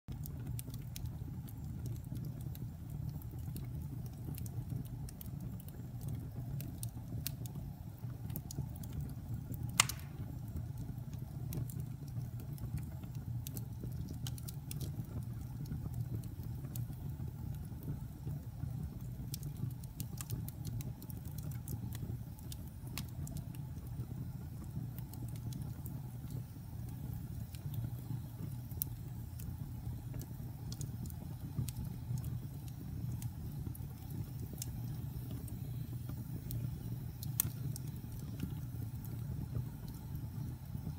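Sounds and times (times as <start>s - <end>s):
crackles and pops of burning logs: 0.1s - 40.9s
low rumble of flames: 0.1s - 40.9s.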